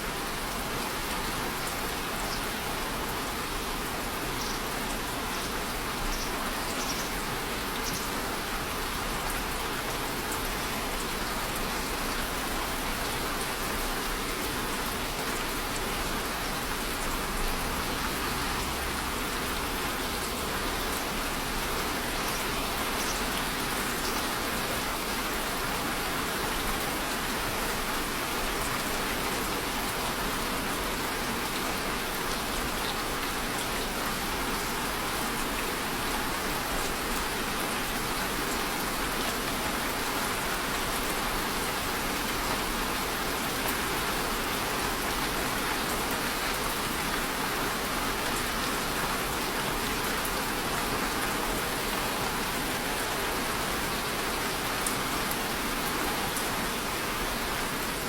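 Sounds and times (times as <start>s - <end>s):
steady rainfall hiss: 0.0s - 58.0s.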